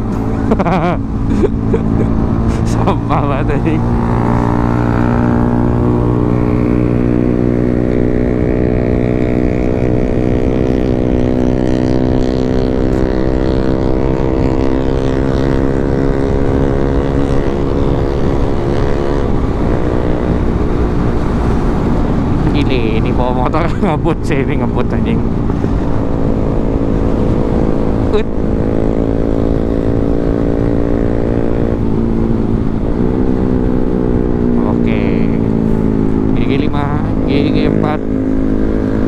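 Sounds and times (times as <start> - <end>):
motorcycle engine running: 0.0 - 39.0
wind rush: 0.0 - 39.0.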